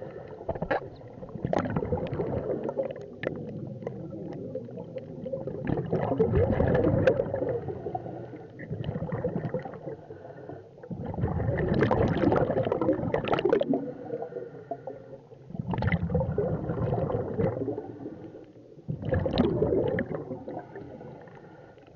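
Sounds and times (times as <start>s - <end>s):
gurgling exhaled bubbles underwater: 0.0s - 21.9s.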